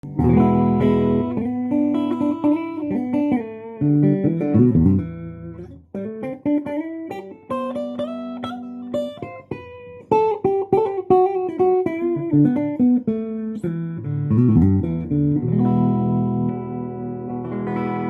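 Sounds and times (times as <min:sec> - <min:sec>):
electric guitar notes and chords: 0:00.0 - 0:18.0.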